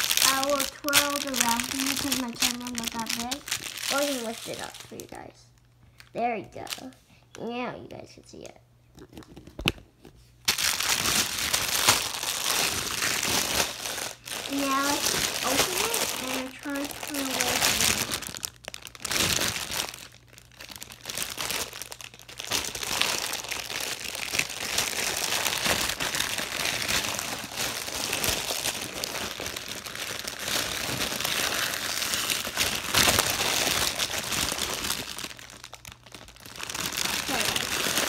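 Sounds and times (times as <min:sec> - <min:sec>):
plastic wrapping crinkling and tearing: 0:00.0 - 0:07.6, 0:09.0 - 0:38.0.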